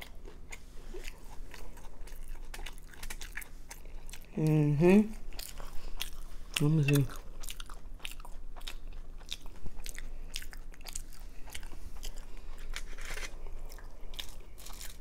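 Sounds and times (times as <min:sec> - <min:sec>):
chewing noodles: 0:00.0 - 0:15.0.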